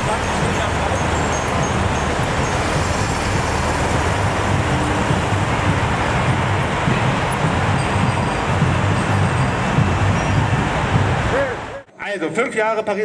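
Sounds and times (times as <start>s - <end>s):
motorway traffic streaming past: 0.0s - 11.9s.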